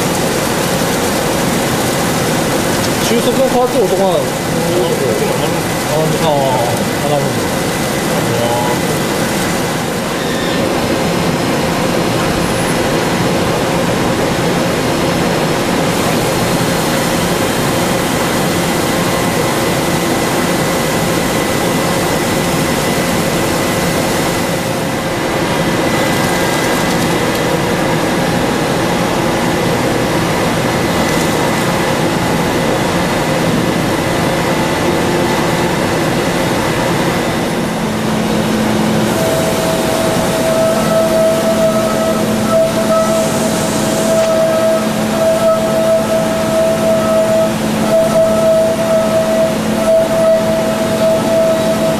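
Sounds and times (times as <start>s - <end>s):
machine whine: 0.0s - 51.9s
spraying coolant and cutting noise: 0.0s - 51.9s.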